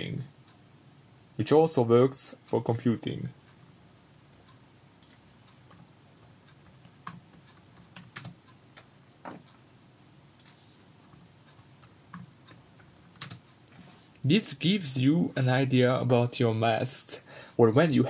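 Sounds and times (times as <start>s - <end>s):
low steady background hum: 0.0s - 18.0s.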